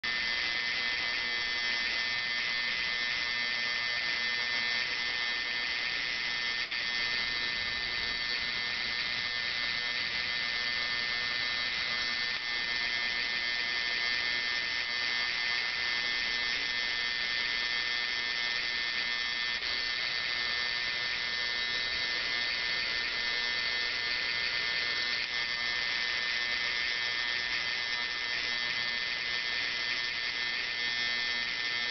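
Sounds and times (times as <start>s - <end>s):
induction coil electrical buzz: 0.0s - 31.9s.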